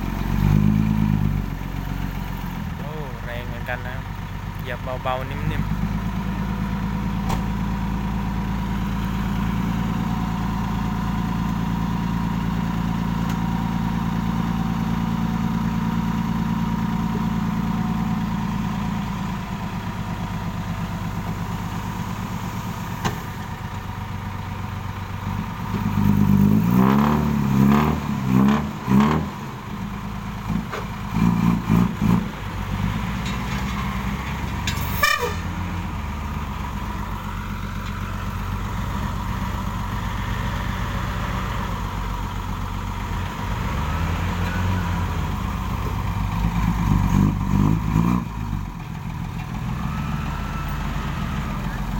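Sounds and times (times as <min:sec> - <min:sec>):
diesel truck engine revving: 0:00.0 - 0:51.9.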